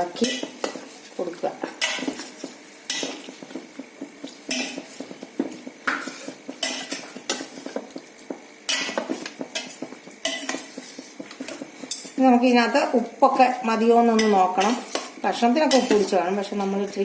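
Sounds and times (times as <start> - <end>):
spoon scraping pan: 0.0 - 16.8
faint sizzle: 0.0 - 17.0.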